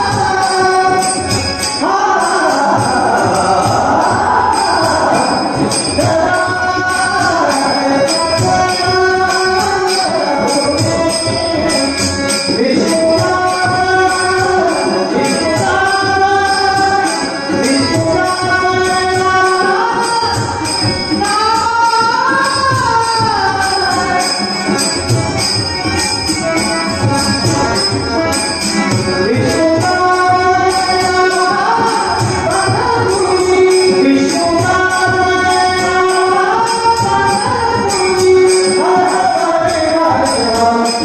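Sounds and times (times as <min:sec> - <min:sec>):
harmonium: 0:00.0 - 0:41.0
jingling percussion: 0:00.0 - 0:41.0
person singing devotional song: 0:00.0 - 0:41.0.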